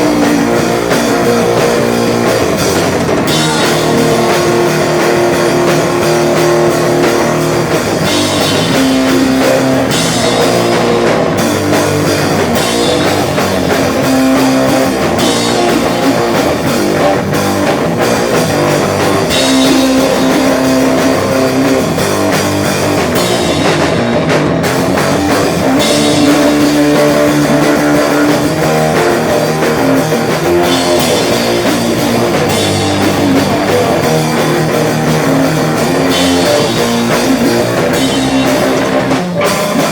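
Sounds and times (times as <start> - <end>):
loud rock band playing: 0.0 - 39.9.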